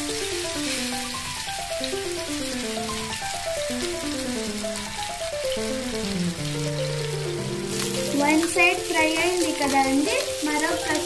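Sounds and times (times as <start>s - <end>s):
background music: 0.0s - 11.0s
fish sizzling in oil: 0.0s - 11.0s.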